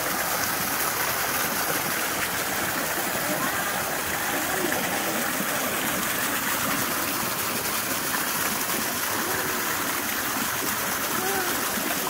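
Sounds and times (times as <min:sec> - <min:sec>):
water splashing into a pool: 0:00.0 - 0:12.0.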